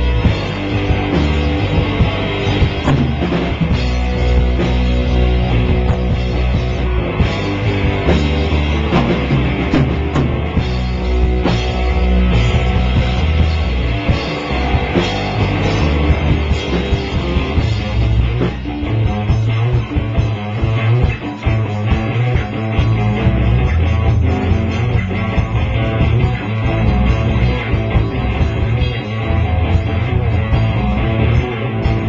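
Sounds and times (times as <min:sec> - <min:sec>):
rock music with guitar and drums: 0:00.0 - 0:32.0.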